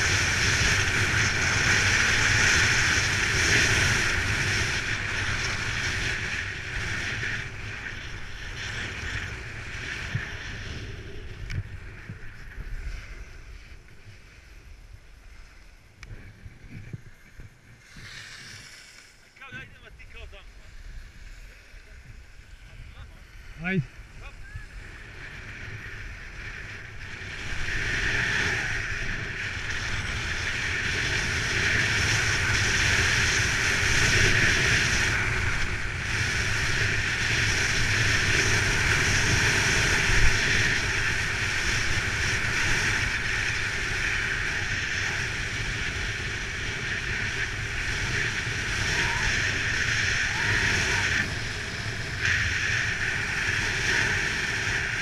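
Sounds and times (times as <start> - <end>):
wind buffeting microphone: 0.0 - 18.8, 19.4 - 55.0
skis hissing and scraping on snow: 0.0 - 55.0.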